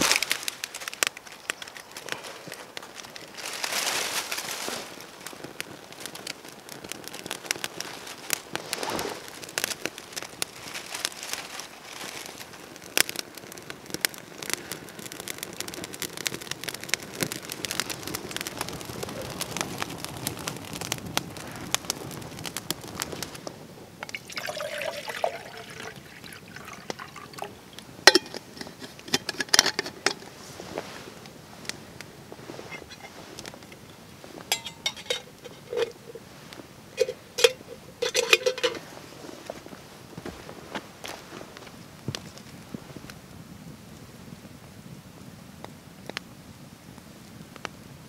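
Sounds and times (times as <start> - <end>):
dry leaves rustling: 0.0 - 23.5, 24.3 - 43.0
fire crackling and popping: 0.0 - 48.0.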